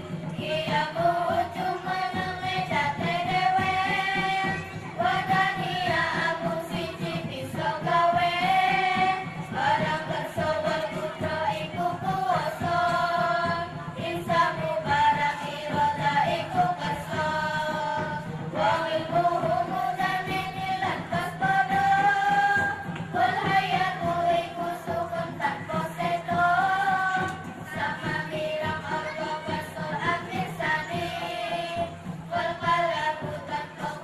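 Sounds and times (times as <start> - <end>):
children singing in unison: 0.0 - 34.0.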